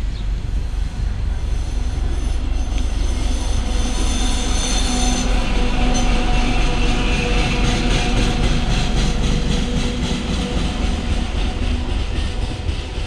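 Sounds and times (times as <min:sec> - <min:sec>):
locomotive diesel engine droning: 0:00.0 - 0:13.0
wheels squealing on rails: 0:00.1 - 0:13.0.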